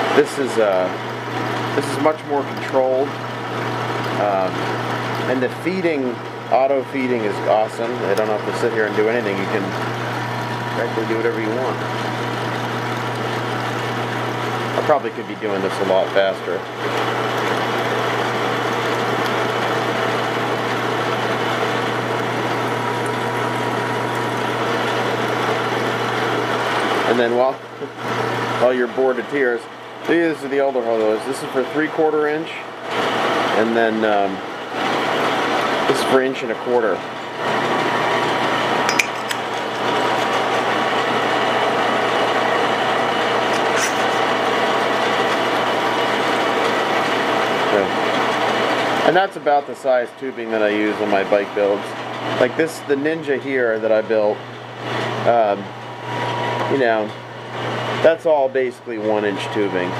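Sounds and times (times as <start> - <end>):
lathe motor hum: 0.0 - 59.9.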